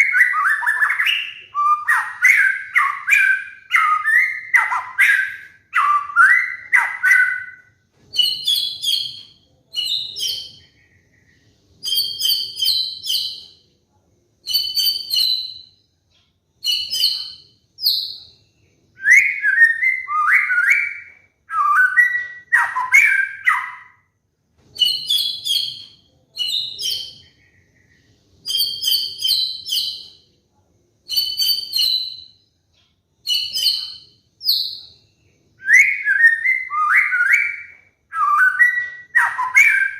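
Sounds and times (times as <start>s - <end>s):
songbird singing: 0.0s - 13.6s, 14.4s - 24.1s, 31.1s - 39.9s.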